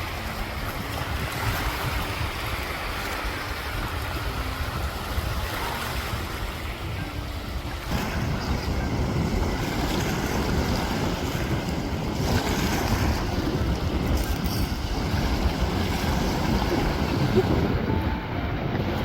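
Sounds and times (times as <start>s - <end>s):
waves washing in: 0.0s - 19.0s
wind buffeting microphone: 0.0s - 19.0s.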